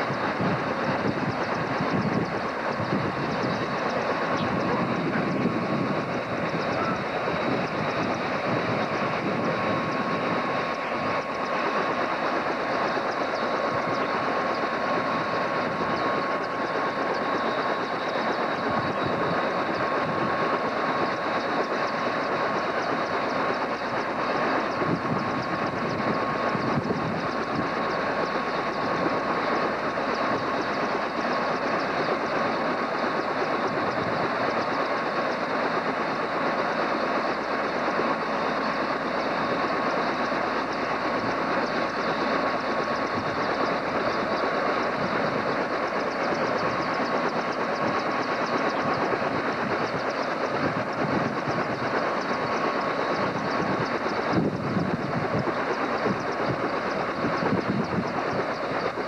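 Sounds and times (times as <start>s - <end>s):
helicopter engine and rotor noise: 0.0s - 59.0s
high turbine whine: 0.0s - 59.0s.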